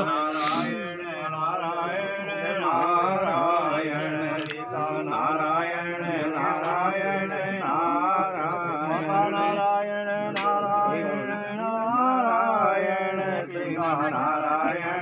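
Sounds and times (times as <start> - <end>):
voices chanting mantras: 0.0 - 15.0.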